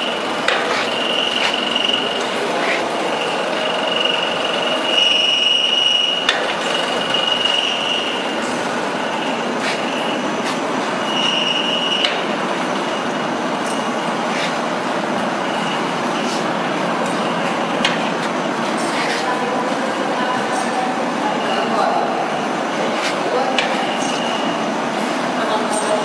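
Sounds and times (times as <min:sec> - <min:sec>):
high machine squeal: 0:00.0 - 0:14.6, 0:15.4 - 0:26.0
steady mechanical noise: 0:00.0 - 0:26.0.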